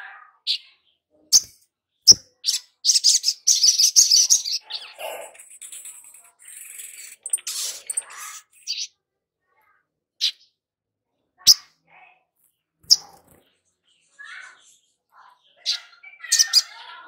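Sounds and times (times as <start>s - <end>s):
bird chirping and trilling: 0.3s - 9.0s, 10.2s - 10.6s, 11.4s - 11.8s, 12.8s - 17.0s.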